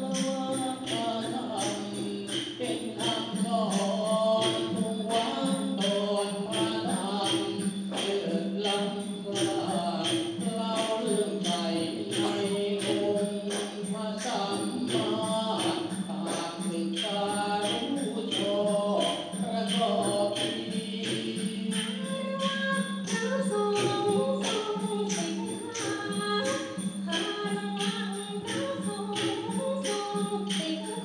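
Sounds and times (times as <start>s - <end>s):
chant sung through microphone: 0.0s - 31.0s
percussion beat: 0.0s - 31.0s.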